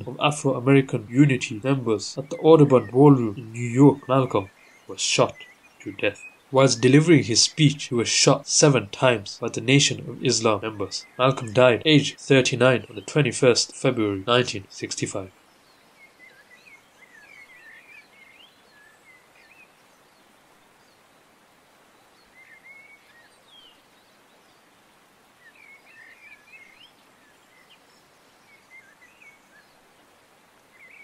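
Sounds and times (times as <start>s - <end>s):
birds twittering: 0.0s - 31.0s
soft outdoor hiss: 0.0s - 31.0s.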